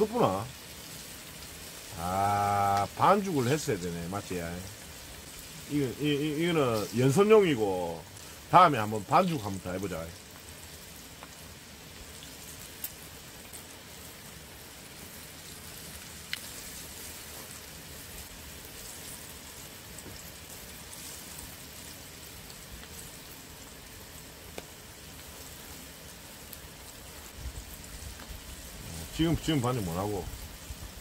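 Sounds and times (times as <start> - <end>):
deep-frying oil sizzling: 0.0 - 31.0.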